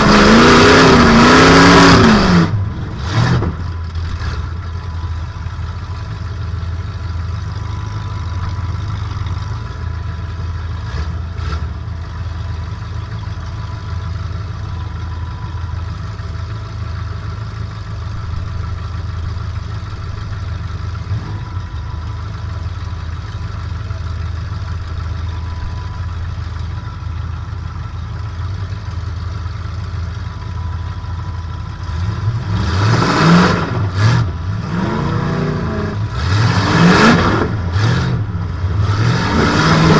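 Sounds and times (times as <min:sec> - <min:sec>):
car engine running and revving: 0:00.0 - 0:39.9.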